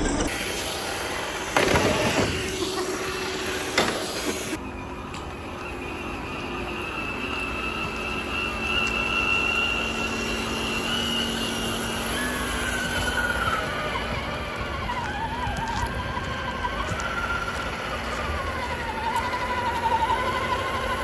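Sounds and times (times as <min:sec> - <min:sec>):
steady high motor whine: 0:00.0 - 0:21.0
wavering whine: 0:00.0 - 0:21.0.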